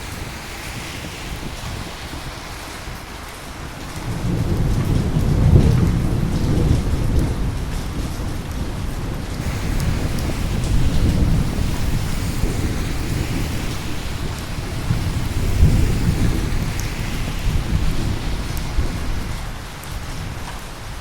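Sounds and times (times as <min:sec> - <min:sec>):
rolling thunder: 0:00.0 - 0:21.0
steady rain: 0:00.0 - 0:21.0.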